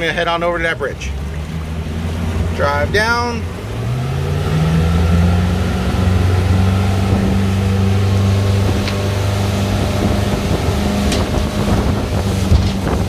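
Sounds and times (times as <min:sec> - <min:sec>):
motorboat engine humming: 0:00.0 - 0:13.0
wind and water rushing: 0:00.0 - 0:13.0.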